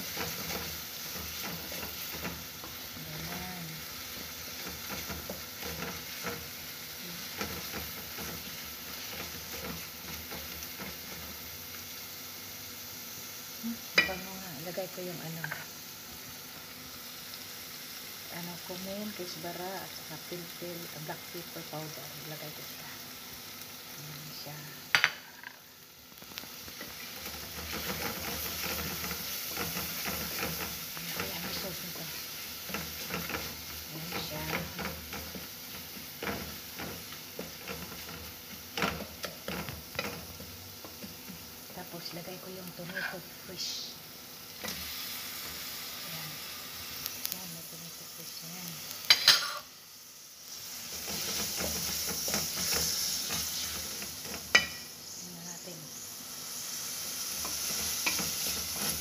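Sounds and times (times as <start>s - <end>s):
food sizzling in a pot: 0.0s - 59.0s.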